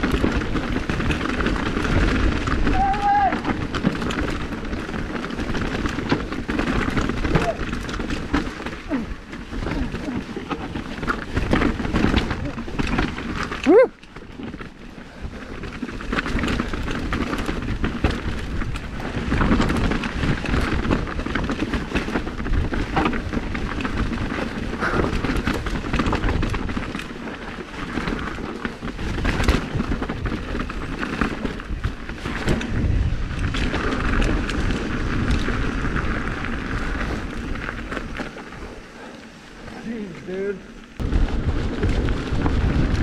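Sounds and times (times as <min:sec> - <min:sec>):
bike clattering and rattling: 0:00.0 - 0:43.0
tyres crunching over loose rock: 0:00.0 - 0:43.0
wind rumble on microphone: 0:00.0 - 0:43.0.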